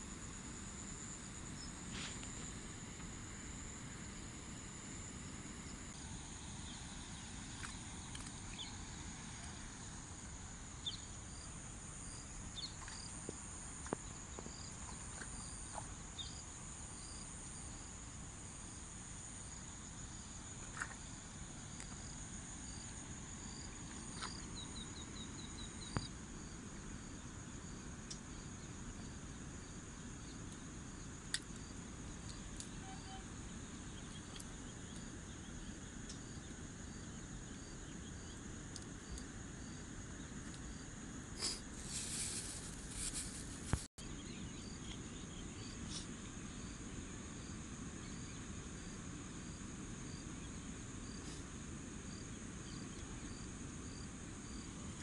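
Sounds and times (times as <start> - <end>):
insect chirps: 0.0 - 55.0
insects trilling: 0.0 - 55.0
rustle: 0.0 - 55.0.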